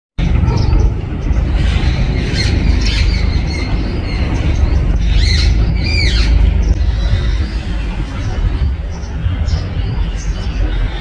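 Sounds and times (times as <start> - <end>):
birds calling: 0.2 - 11.0
low rumble: 0.2 - 11.0.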